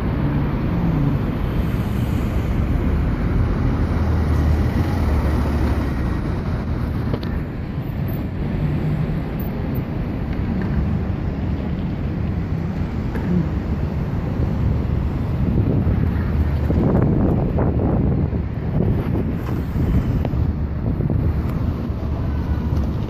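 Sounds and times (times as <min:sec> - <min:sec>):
bus and car engines passing: 0:00.0 - 0:23.0
wind rumble on microphone: 0:00.0 - 0:23.0.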